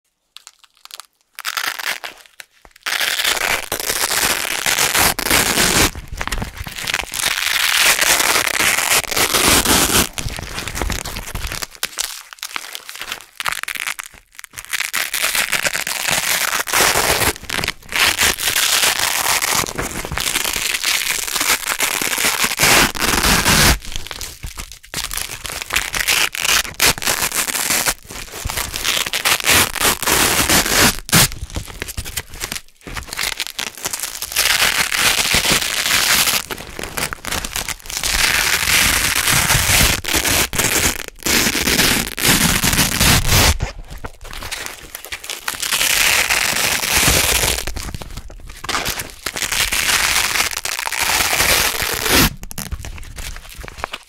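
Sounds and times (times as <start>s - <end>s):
velcro ripping apart: 0.3s - 54.0s.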